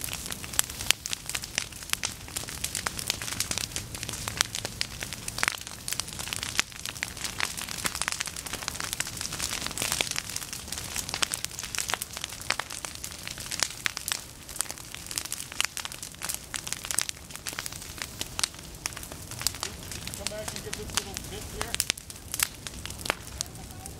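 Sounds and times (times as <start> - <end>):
fire crackling and popping: 0.0 - 23.9
steady fire hiss: 0.0 - 23.9.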